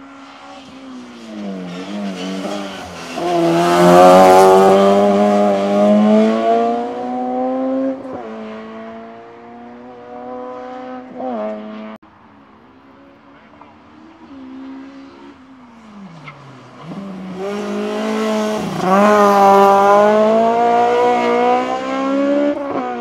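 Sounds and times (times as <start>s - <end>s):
race car accelerating past: 0.0s - 12.0s, 13.2s - 23.0s.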